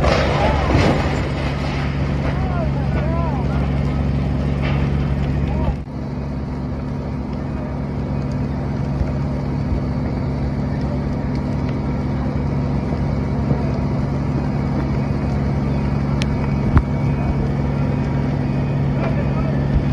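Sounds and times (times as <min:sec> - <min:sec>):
engine drone: 0:00.0 - 0:19.9.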